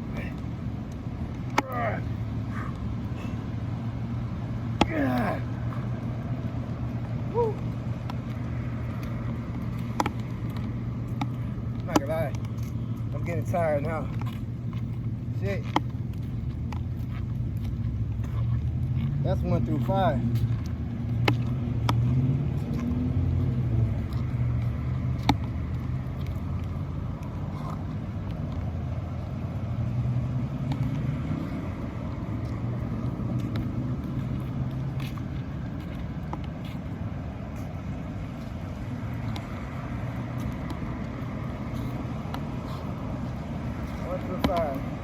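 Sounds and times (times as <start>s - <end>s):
motor vehicle rumble: 0.0s - 45.0s.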